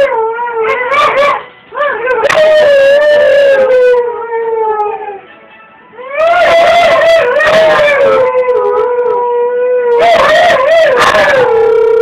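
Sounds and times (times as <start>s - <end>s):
husky howling: 0.0s - 5.2s, 6.0s - 12.0s.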